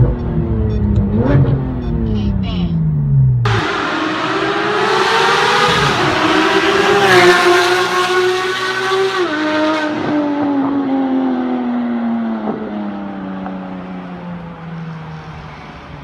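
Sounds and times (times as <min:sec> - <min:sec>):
sports car engine at high revs: 0:00.0 - 0:14.6.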